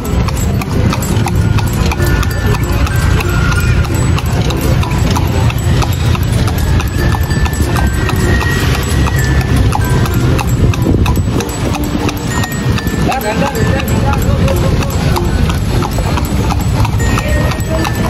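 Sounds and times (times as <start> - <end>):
horse hooves clip-clopping on asphalt: 0.0 - 18.0.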